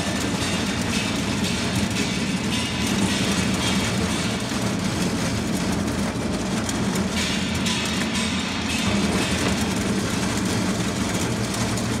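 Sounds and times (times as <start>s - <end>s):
pellet mill droning: 0.0s - 12.0s.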